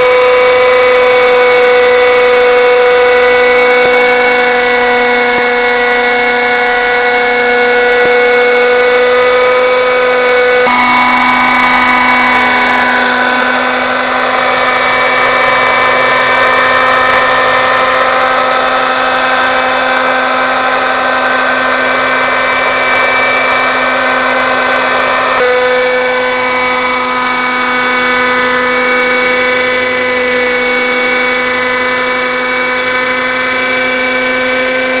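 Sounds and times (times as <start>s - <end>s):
model helicopter engine whine: 0.0s - 35.0s.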